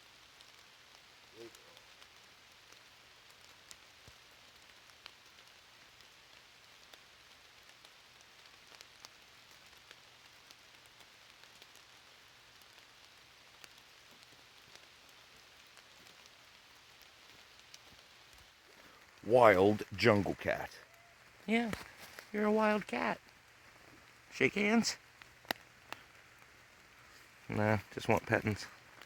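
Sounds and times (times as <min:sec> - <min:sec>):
light rain hiss: 0:00.0 - 0:29.0
raindrops clicking: 0:00.1 - 0:29.0.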